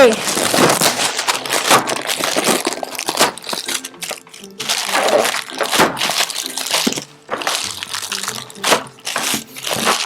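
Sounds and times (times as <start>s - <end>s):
plastic crackling: 0.0s - 10.0s
soft background music: 0.0s - 10.0s.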